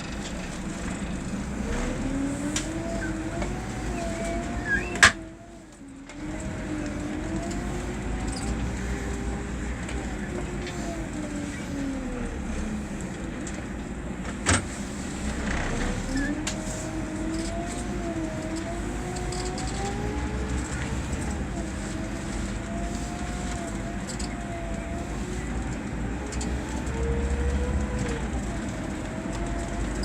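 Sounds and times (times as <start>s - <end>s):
bus diesel engine: 0.0s - 30.0s.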